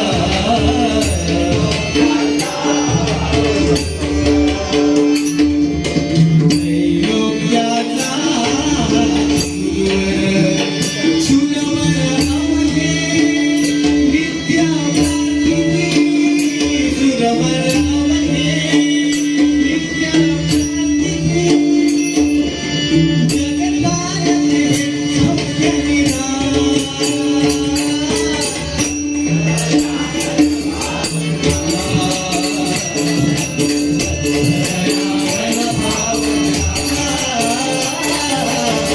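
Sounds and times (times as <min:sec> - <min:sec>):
group singing: 0:00.0 - 0:20.6, 0:24.3 - 0:38.9
drum and hand percussion: 0:00.0 - 0:38.9.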